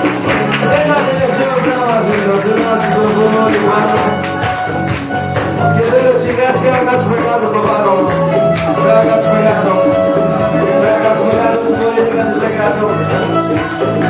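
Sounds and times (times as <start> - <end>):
band playing live: 0.0 - 14.0
jingling percussion rhythm: 0.0 - 14.0.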